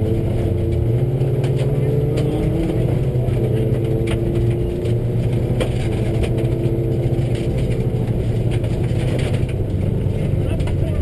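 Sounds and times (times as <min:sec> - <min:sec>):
rally car engine at speed: 0:00.0 - 0:11.0.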